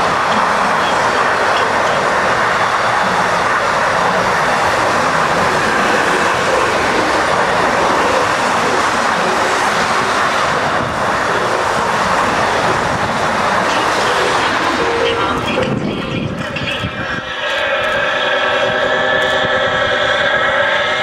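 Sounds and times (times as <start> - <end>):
freight train passing: 0.0 - 21.0.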